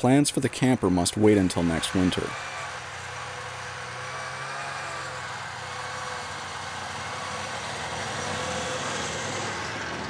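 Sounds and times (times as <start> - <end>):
snowmobile engine running: 0.0 - 10.0.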